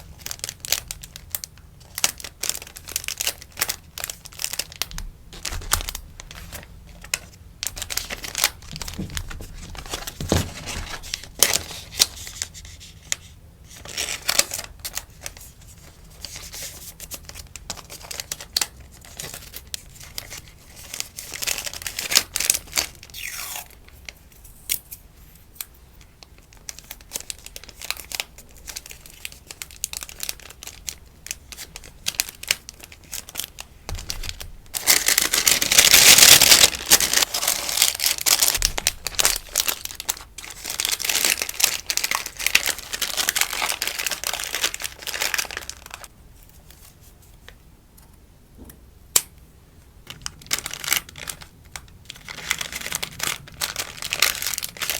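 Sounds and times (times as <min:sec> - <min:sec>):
packaging rustling and crinkling: 0:00.0 - 0:47.6, 0:50.0 - 0:54.9.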